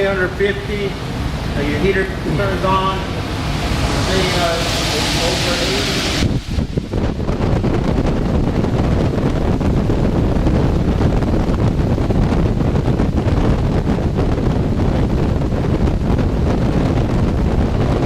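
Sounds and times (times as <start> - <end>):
blower fan rush of air: 0.0 - 18.0.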